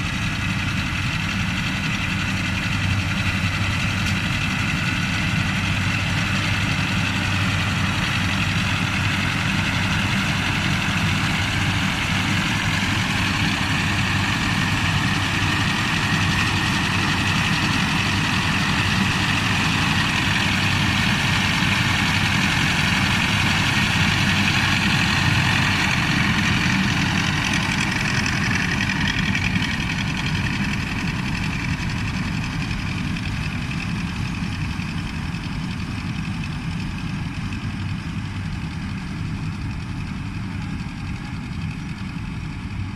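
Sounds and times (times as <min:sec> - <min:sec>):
diesel engine drone: 0:00.0 - 0:42.9.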